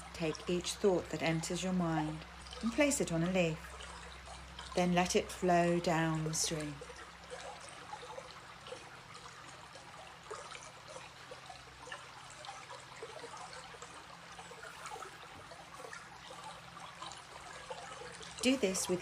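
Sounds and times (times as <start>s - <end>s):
stream trickling and babbling: 0.0s - 19.0s.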